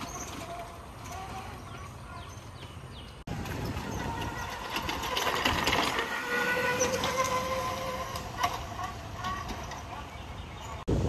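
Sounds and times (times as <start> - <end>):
electric quad motor whining: 0.0 - 2.4, 3.2 - 10.9.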